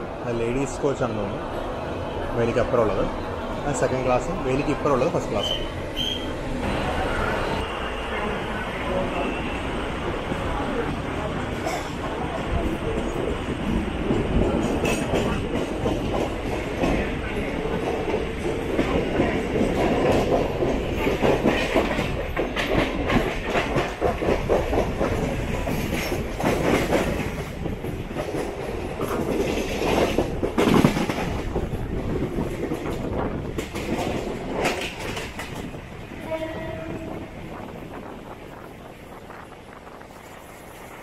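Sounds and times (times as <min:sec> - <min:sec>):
train rumble from aboard: 0:00.0 - 0:41.0.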